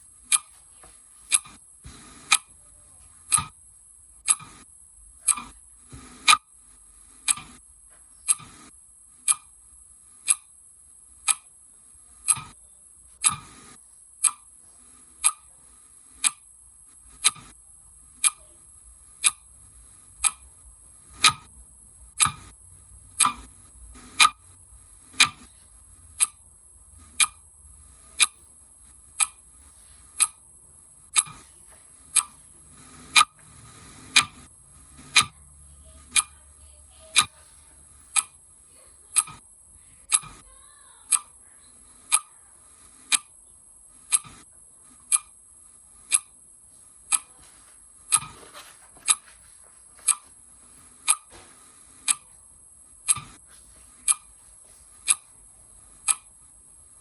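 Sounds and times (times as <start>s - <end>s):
clock ticking: 0.0s - 0.6s, 1.3s - 6.6s, 7.2s - 7.6s, 8.3s - 9.6s, 10.2s - 10.6s, 11.2s - 11.6s, 12.2s - 12.6s, 13.2s - 45.4s, 46.0s - 46.4s, 47.0s - 47.4s, 48.0s - 49.4s, 50.0s - 53.4s, 54.0s - 54.4s, 55.0s - 57.0s.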